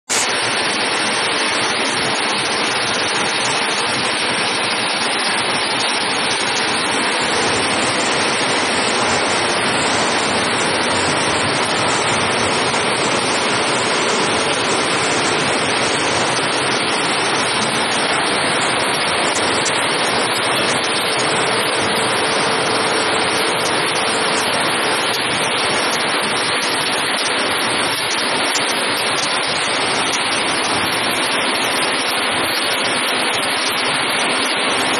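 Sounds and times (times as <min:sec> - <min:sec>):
industrial machinery rushing: 0:00.2 - 0:34.9.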